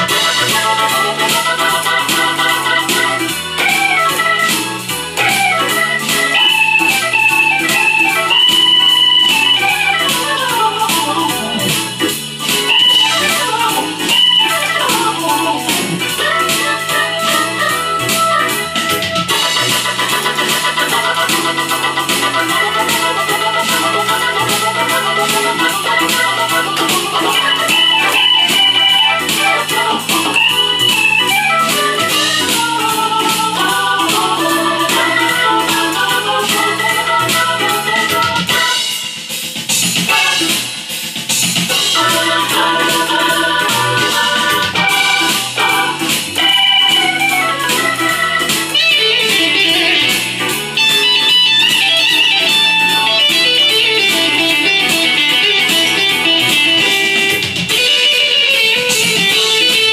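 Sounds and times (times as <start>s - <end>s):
keyboard backing beat: 0.0s - 59.9s
organ soloing blues: 0.0s - 59.9s.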